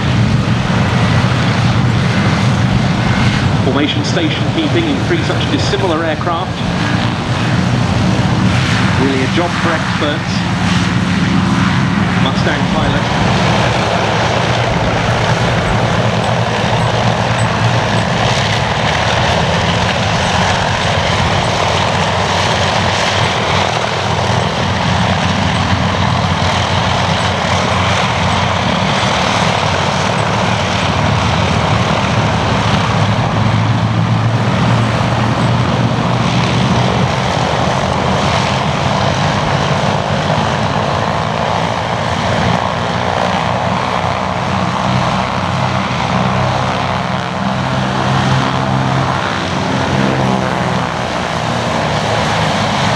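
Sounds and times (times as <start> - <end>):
piston aircraft engines droning: 0.0 - 52.9.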